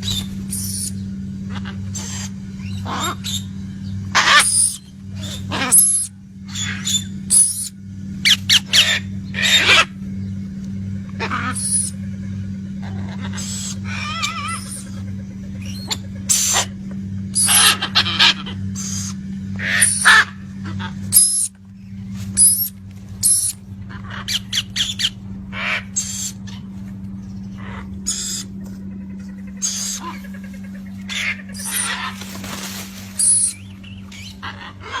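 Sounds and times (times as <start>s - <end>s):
parrots squawking: 0.0s - 3.5s, 4.1s - 9.9s, 11.2s - 12.0s, 12.8s - 16.7s, 17.3s - 21.6s, 22.4s - 26.7s, 27.5s - 35.0s
steady low hum: 0.0s - 35.0s.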